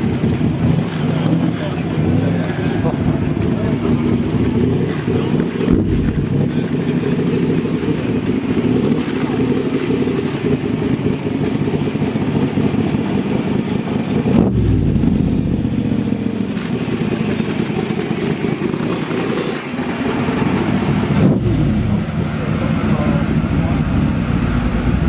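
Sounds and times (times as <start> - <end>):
v eight engine idling: 0.0 - 25.0.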